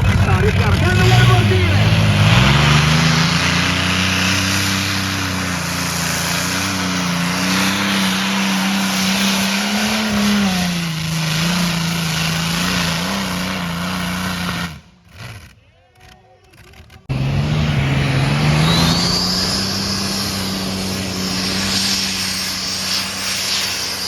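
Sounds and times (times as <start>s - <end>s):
tractor engine at high revs: 0.0s - 24.0s.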